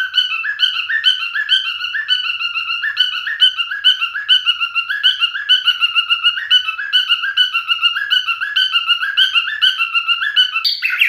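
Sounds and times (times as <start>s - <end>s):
cockatiel whistling song: 0.0s - 11.0s.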